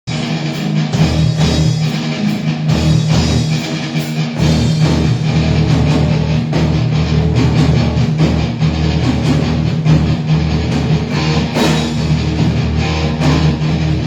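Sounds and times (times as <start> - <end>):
drum kit: 0.1 - 14.0
loud electric guitar: 0.1 - 14.0.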